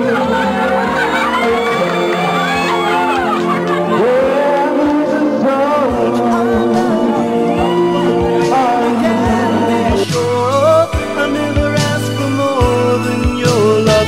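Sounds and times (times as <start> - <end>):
pop song with singer: 0.0 - 14.0.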